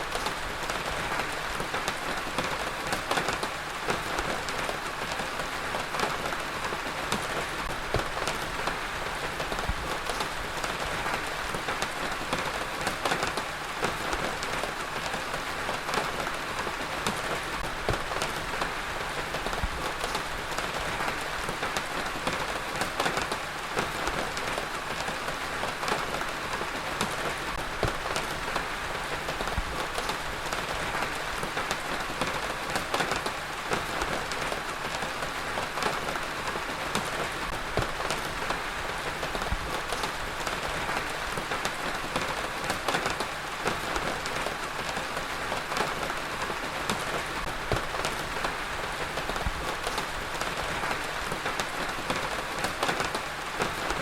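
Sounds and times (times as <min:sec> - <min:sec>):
heavy rain on a surface: 0:00.0 - 0:54.0.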